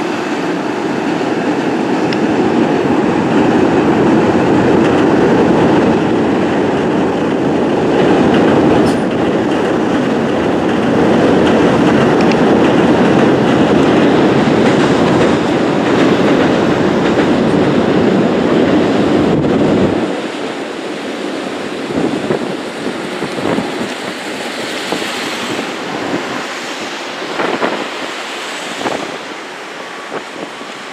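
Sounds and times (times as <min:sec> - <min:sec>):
train rumbling over bridge: 0:00.0 - 0:30.9
wind on microphone: 0:00.0 - 0:30.9
wheels clattering over rail joints: 0:01.2 - 0:30.9.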